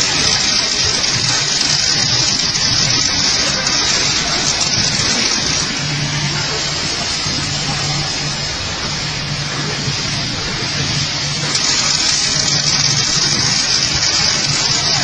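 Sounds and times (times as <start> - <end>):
welding arc hissing and crackling: 0.0 - 15.0.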